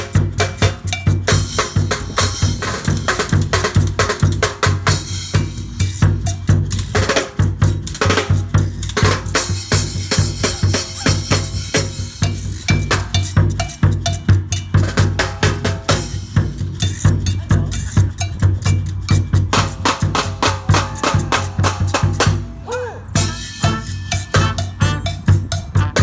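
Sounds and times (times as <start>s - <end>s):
cowbell: 0.0s - 22.4s, 23.1s - 26.0s
drums: 0.0s - 26.0s.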